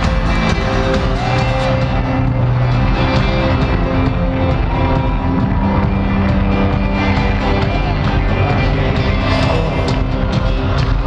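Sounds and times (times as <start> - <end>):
crowd noise: 0.0 - 11.0
loud concert music: 0.0 - 11.0.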